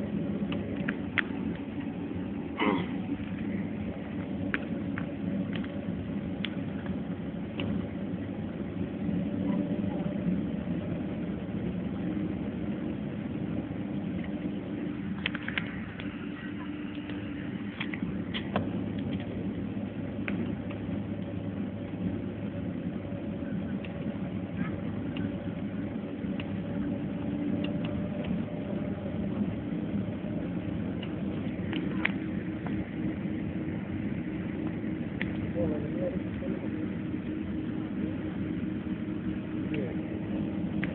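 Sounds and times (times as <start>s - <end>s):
jet engines hum and rumble in cabin: 0.0s - 40.9s.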